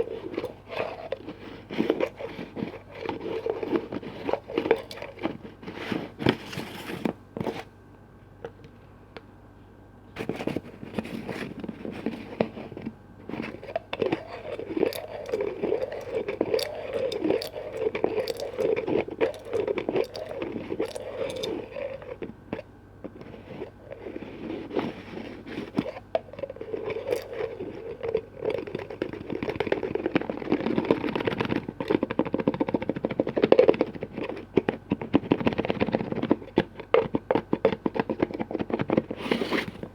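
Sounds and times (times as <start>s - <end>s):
scratching and rubbing: 0.0s - 7.7s, 10.2s - 39.9s.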